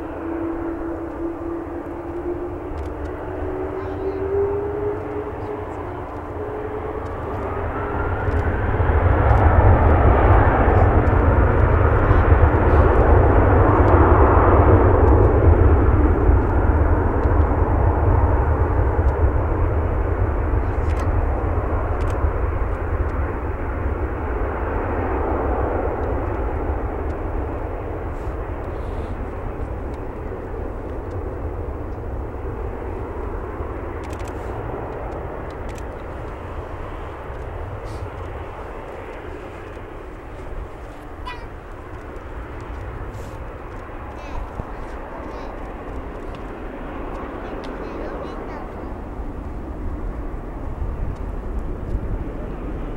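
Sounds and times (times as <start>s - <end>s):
jet taking off roaring: 0.0s - 52.9s.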